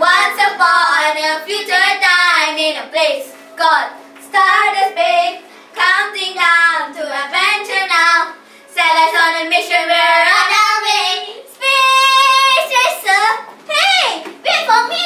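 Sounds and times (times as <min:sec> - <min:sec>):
girls singing unaccompanied: 0:00.0 - 0:15.0.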